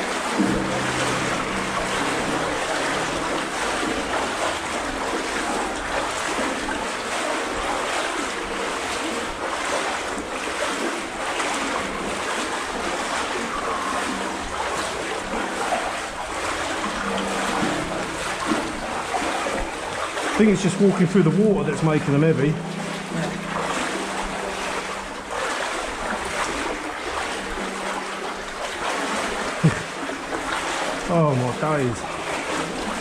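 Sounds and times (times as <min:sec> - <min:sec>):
wading through deep water: 0:00.0 - 0:33.0.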